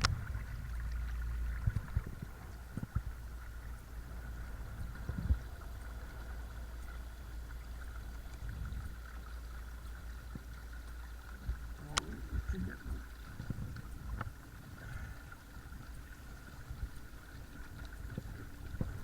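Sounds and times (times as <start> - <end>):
water gurgling along hull: 0.0 - 19.0.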